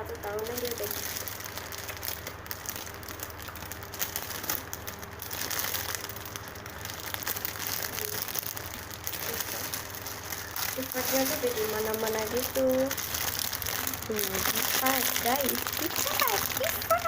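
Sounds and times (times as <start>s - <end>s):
foam toy crinkling and rustling: 0.0s - 17.0s.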